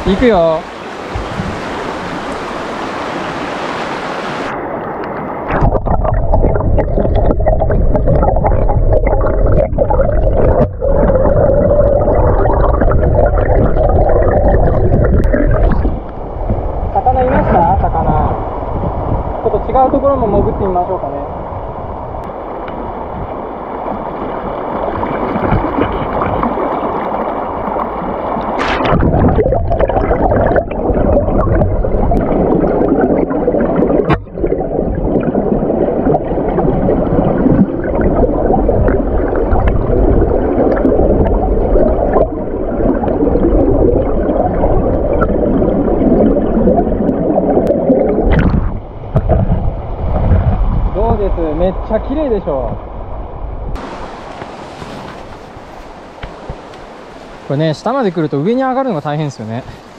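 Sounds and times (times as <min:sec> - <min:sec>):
muffled underwater stream gurgling: 0:00.0 - 0:59.9.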